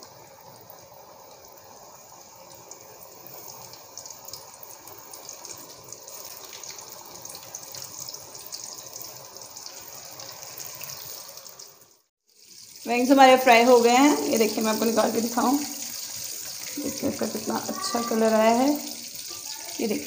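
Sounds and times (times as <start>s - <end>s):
chicken frying in hot oil: 0.0s - 20.0s.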